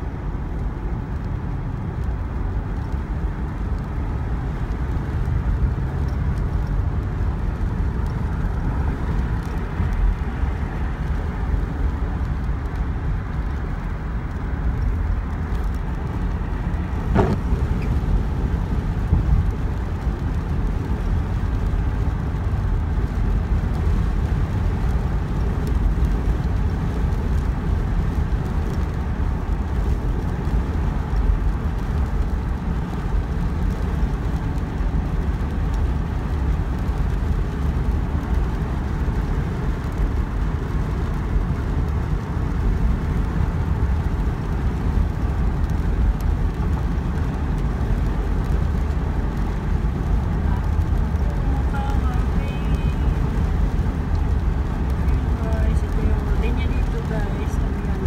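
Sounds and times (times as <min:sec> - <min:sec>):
car road noise on wet pavement: 0:00.0 - 0:58.0.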